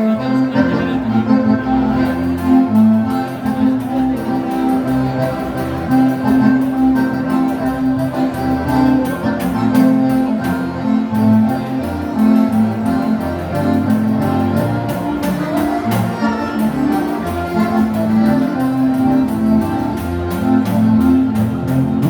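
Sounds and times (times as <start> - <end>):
live dance band playing: 0.0 - 22.0.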